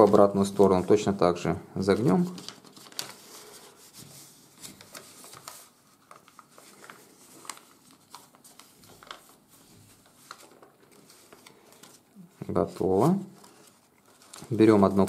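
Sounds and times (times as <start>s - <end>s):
paper rustling and crinkling: 0.0s - 1.2s, 1.8s - 15.0s.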